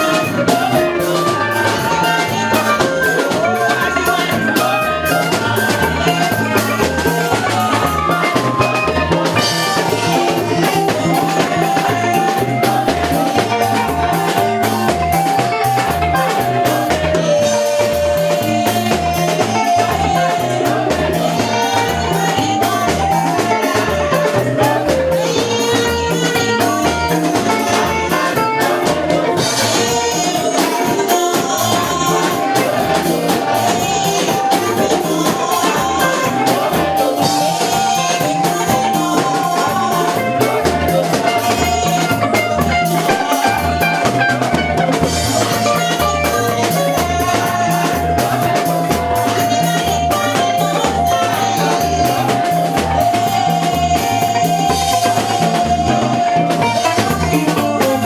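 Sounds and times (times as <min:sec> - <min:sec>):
drum kit steady beat: 0:00.0 - 0:58.0
live band praise music: 0:00.0 - 0:58.0.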